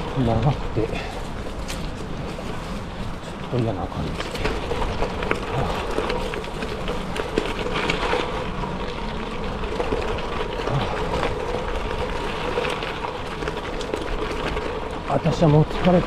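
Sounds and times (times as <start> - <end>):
bike tyres rolling on gravel: 0.0 - 16.0
stones ticking and rattling: 0.0 - 16.0.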